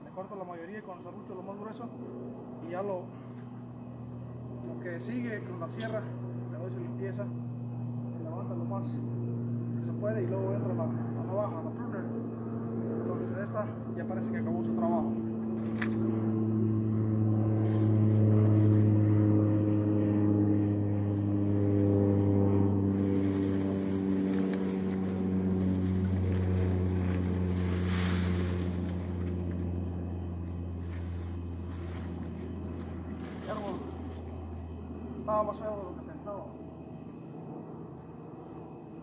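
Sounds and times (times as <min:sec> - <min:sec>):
engine running: 0:00.9 - 0:39.0.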